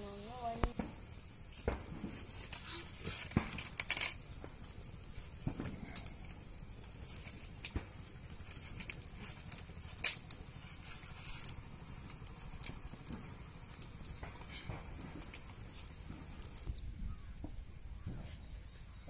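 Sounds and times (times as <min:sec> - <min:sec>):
wood fire crackling: 0:00.0 - 0:18.8.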